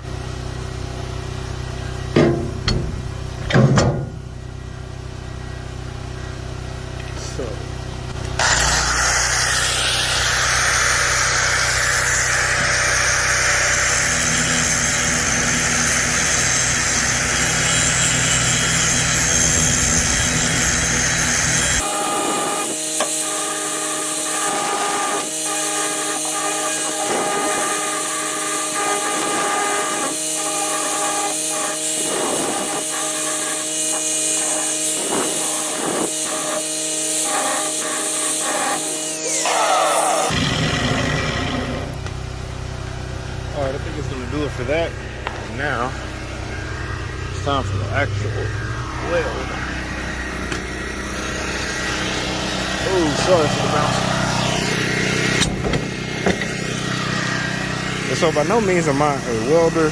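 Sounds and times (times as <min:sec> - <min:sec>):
power tool grinding steel: 0:01.6 - 0:04.4, 0:08.1 - 0:59.9.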